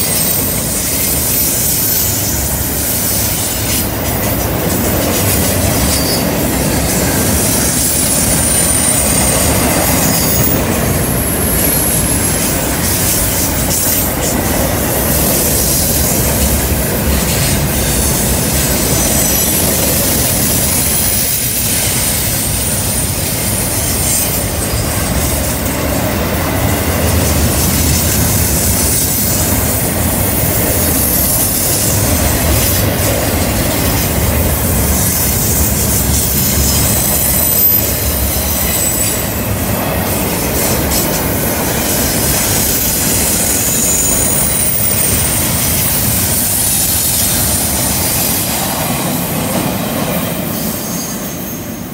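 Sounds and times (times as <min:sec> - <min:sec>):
high wheel squeal: 0:00.0 - 0:51.9
steel wheels rumbling on rail: 0:00.0 - 0:51.9.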